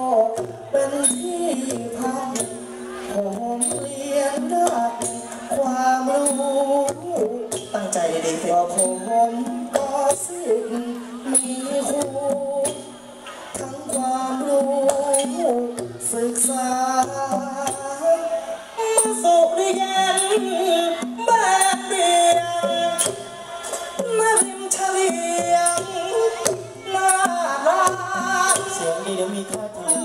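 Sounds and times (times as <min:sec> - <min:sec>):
person singing through a microphone: 0:00.0 - 0:30.0
stage ensemble accompaniment: 0:00.0 - 0:30.0.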